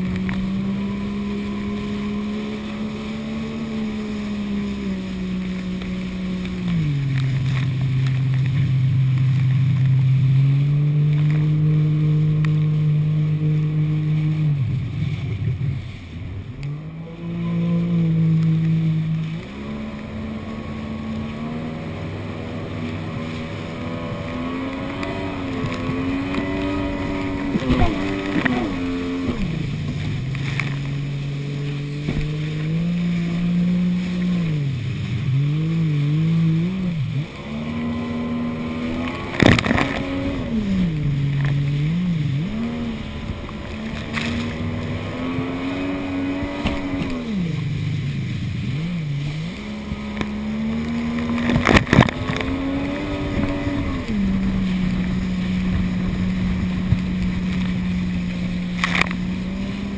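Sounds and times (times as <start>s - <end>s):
hull smacking waves: 0.0s - 59.9s
jet ski engine revving: 0.0s - 59.9s
wind: 0.0s - 59.9s.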